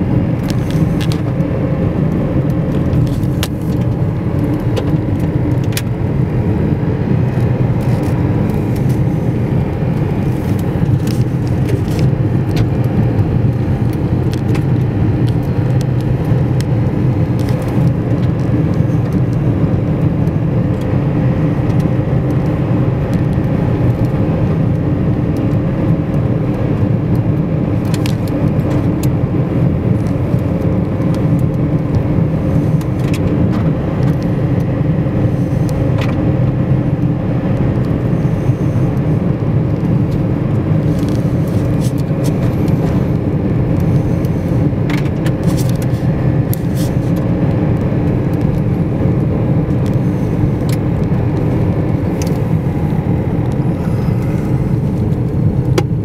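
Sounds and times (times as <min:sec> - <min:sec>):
car cabin rumble on snow: 0:00.0 - 0:56.0.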